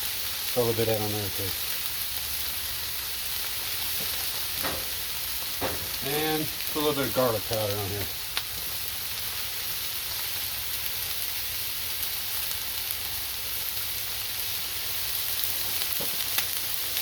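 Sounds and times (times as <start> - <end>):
food sizzling on a griddle: 0.0 - 17.0
faint crackles: 0.5 - 11.4, 12.0 - 17.0.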